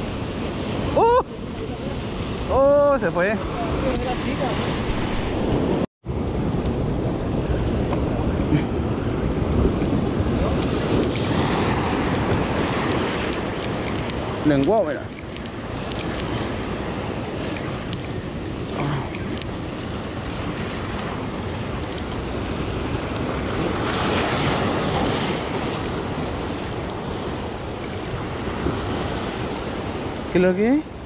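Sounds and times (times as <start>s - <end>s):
surf breaking over rocks: 0.0s - 30.8s
wind buffeting microphone: 0.0s - 31.0s.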